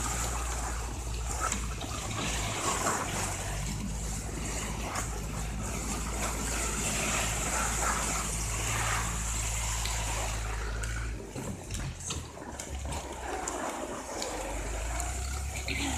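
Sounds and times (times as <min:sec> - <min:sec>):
sled sliding over snow: 0:00.0 - 0:15.9
tractor engine running: 0:00.0 - 0:15.9.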